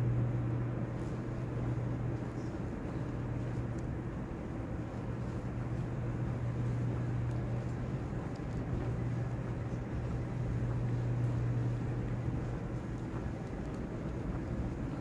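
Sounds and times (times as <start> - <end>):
low hum and rumble of large room: 0.0 - 15.0.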